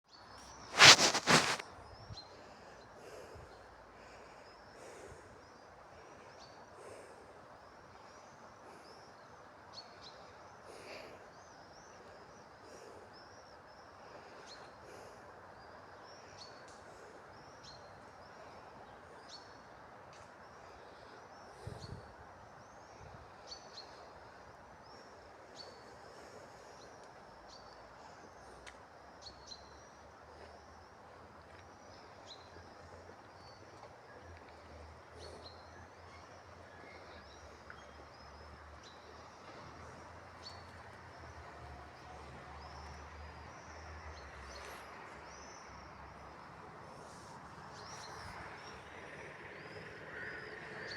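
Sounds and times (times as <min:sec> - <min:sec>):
outdoor background hiss: 0:00.1 - 0:50.9
small birds chirping: 0:00.1 - 0:50.9.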